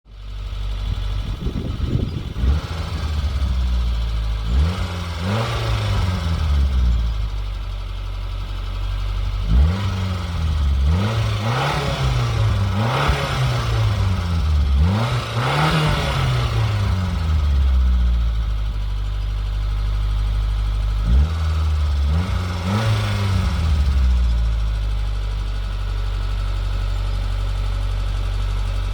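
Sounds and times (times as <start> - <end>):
car engine idling and revving: 0.1 - 28.9.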